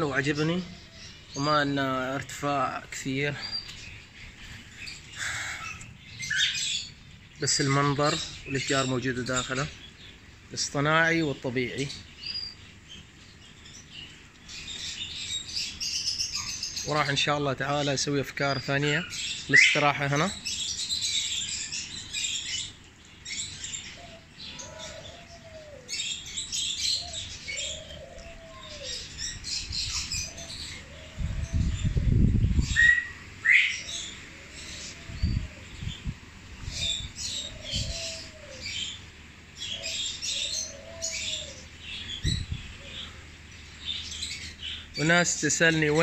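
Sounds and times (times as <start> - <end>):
low arching bird call: 0.0 - 10.8, 19.2 - 46.0
small birds chirping and twittering: 0.0 - 46.0.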